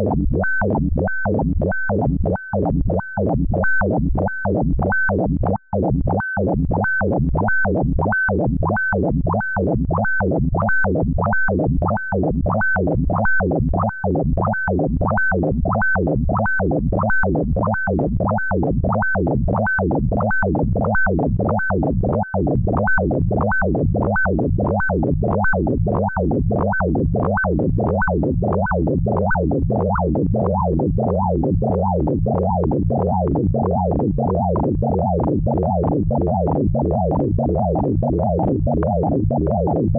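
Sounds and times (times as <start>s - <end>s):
pulsing synthesized electronic tones: 0.0s - 39.8s.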